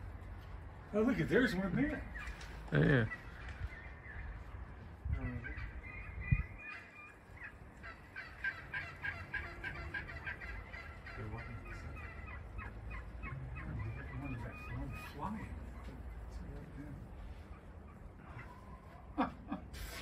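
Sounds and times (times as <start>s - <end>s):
birds chattering: 0.9s - 19.5s.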